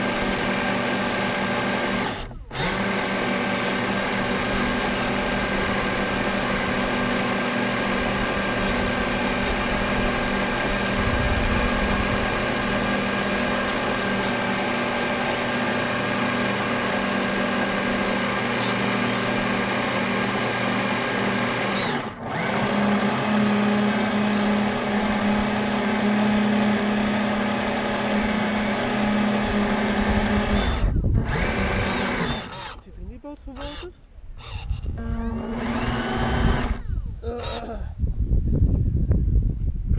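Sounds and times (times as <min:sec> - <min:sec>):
electric motor whine: 0:00.0 - 0:37.9.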